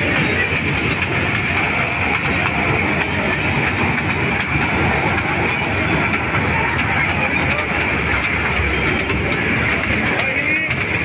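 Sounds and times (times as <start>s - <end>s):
toy train wheels clattering on rails: 0.0s - 11.0s.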